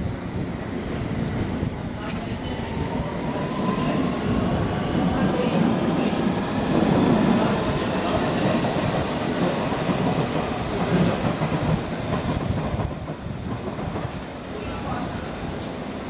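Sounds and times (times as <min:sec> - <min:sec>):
train wheels rumbling on rails: 0:00.0 - 0:15.7.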